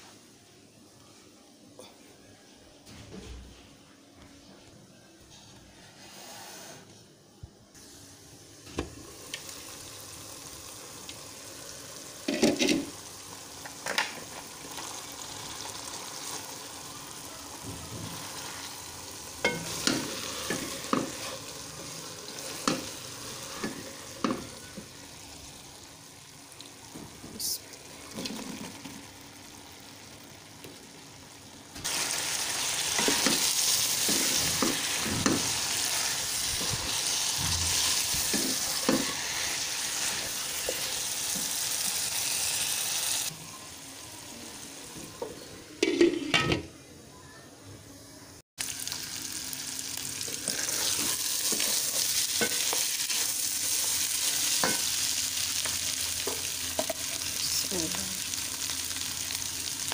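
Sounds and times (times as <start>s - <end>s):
curry sizzling in a pot: 8.8s - 46.6s, 48.6s - 59.9s.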